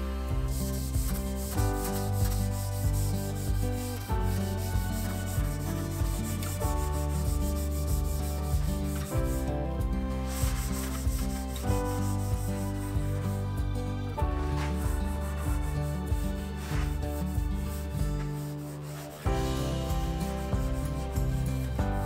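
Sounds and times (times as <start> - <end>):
gloved hands rubbing wood: 0.0 - 13.7, 14.4 - 21.9
background music: 0.0 - 22.0.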